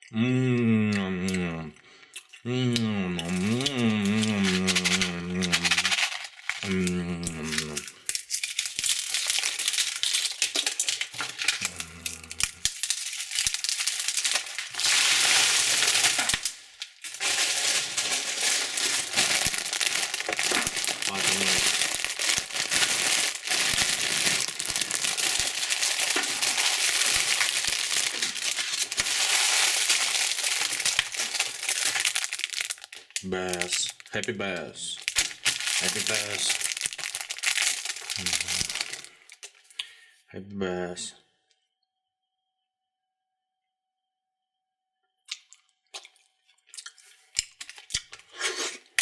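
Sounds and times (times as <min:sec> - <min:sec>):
candy wrappers crinkling: 0:03.2 - 0:39.8, 0:46.0 - 0:49.0.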